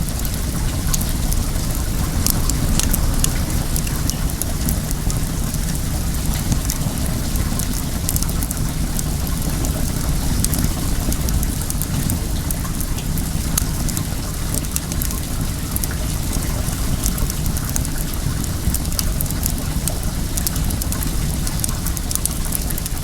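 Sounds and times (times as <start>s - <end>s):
flowing water rushing: 0.0s - 23.0s
wood fire crackling: 0.0s - 23.0s.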